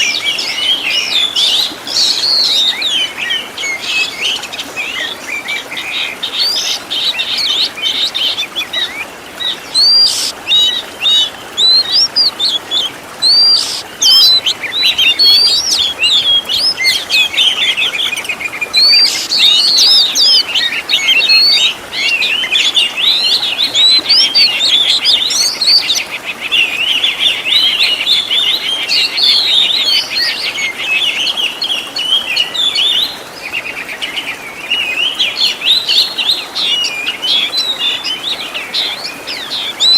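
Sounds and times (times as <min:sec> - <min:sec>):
songbird singing whistles and trills: 0:00.0 - 0:33.2, 0:34.6 - 0:39.9.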